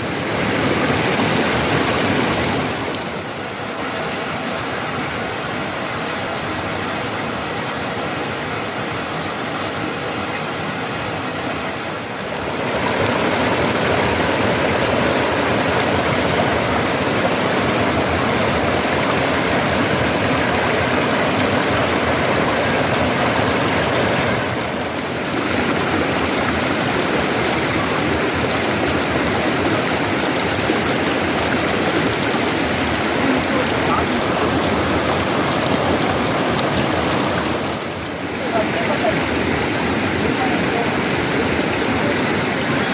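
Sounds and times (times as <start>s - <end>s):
stream rushing: 0.0s - 42.9s.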